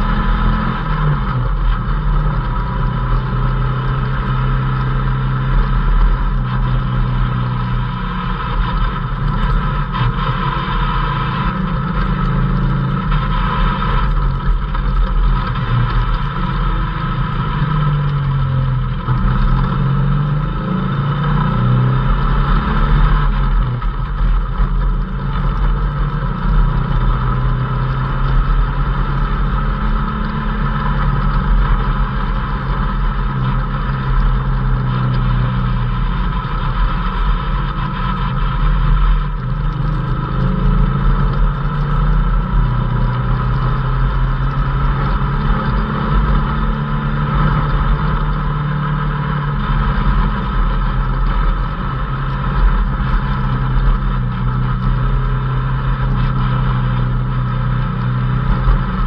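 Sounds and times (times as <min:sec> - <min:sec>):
engine running: 0:00.0 - 0:59.0
high whine: 0:00.0 - 0:59.0.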